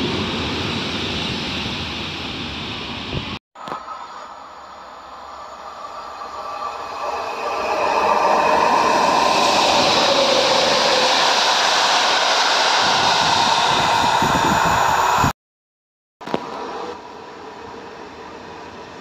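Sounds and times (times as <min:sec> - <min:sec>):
train passing on rails: 0:00.0 - 0:15.3, 0:16.3 - 0:19.0.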